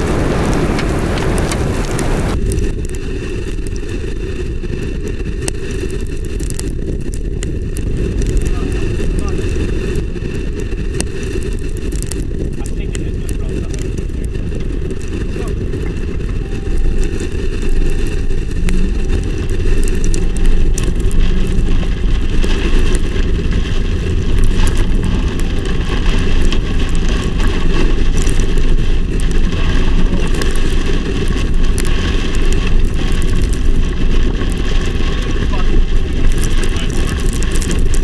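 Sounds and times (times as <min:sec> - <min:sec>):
rain ticking: 0:00.0 - 0:38.0
wind buffeting microphone: 0:00.0 - 0:38.0.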